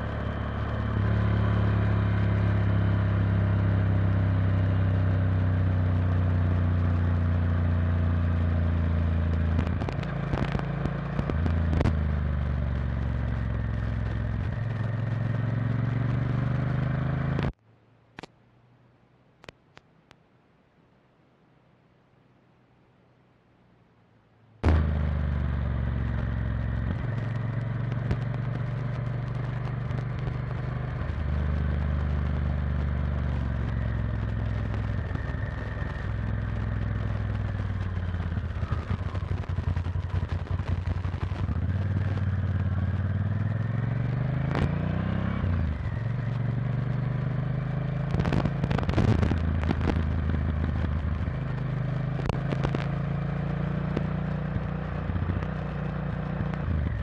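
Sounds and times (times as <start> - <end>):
motorcycle engine revving: 0.0 - 17.6, 24.6 - 57.0.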